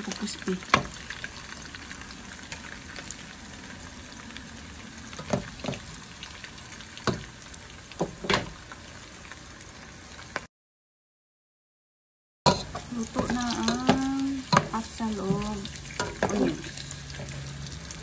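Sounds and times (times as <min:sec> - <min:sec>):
onions sizzling in hot oil: 0:00.0 - 0:10.5, 0:12.5 - 0:18.0.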